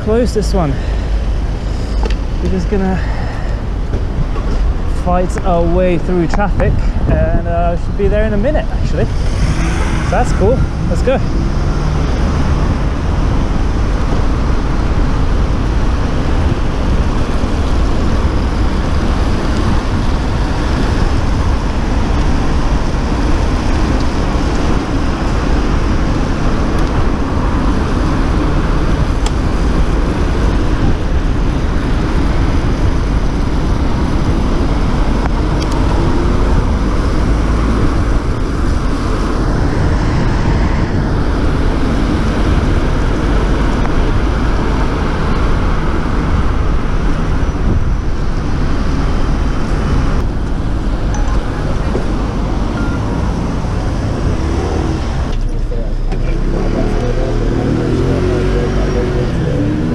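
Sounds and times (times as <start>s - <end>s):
car traffic on wet road: 0.0s - 59.9s
wind rush on microphone: 0.0s - 59.9s.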